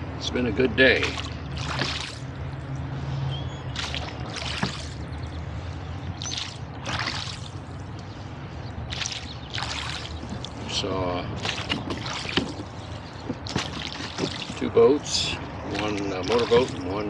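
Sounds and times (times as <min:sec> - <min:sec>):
oars splashing through water: 0:01.0 - 0:02.7, 0:03.5 - 0:07.9, 0:08.7 - 0:17.0.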